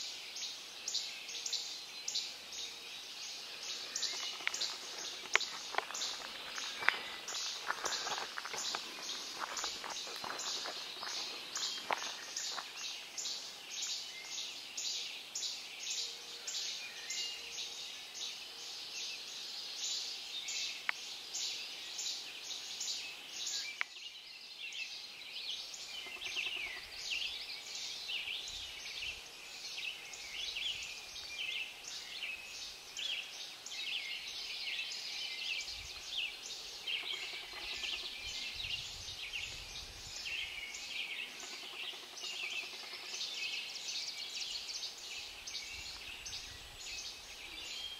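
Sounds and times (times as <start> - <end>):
songbirds singing: 0.0 - 47.9.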